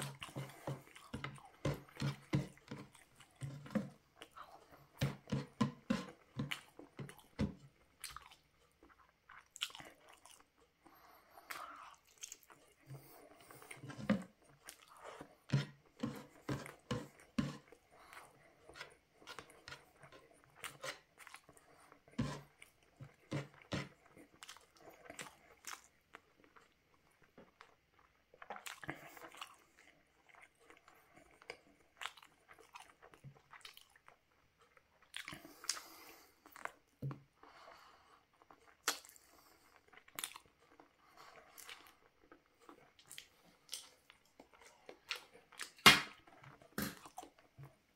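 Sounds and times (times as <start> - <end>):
man chewing food: 0.0 - 47.9.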